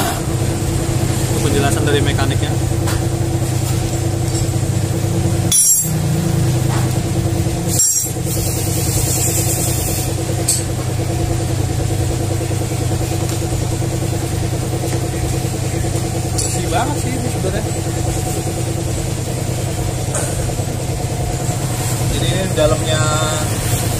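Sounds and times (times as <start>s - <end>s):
engine humming: 0.0s - 23.9s.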